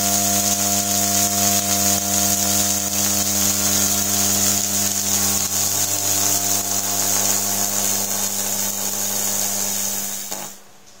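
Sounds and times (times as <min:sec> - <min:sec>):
tesla coil sparks buzzing: 0:00.0 - 0:10.8.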